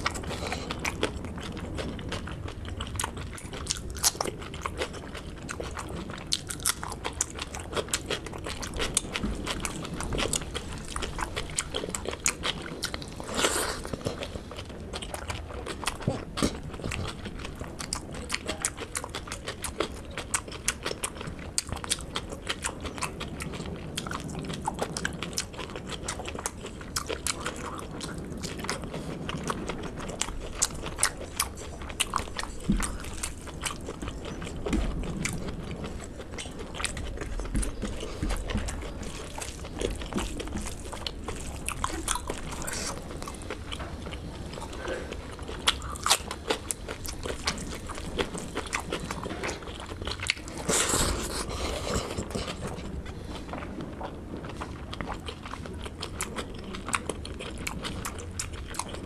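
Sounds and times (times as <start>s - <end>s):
person chewing and biting food: 0.0s - 59.0s.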